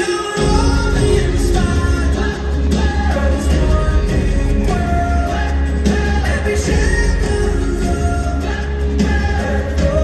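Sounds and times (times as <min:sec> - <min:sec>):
person singing: 0:00.0 - 0:10.0
show music with heavy bass: 0:00.0 - 0:10.0.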